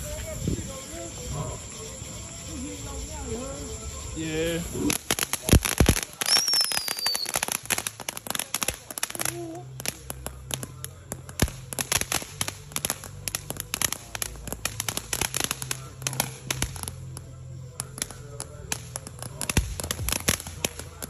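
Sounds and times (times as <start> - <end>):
firecrackers and fireworks banging: 0.0 - 21.0.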